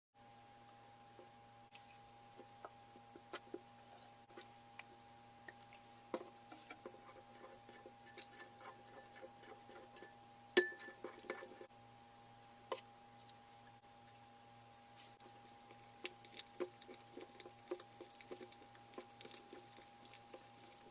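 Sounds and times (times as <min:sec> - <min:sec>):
faint electrical hum: 0:00.2 - 0:20.9.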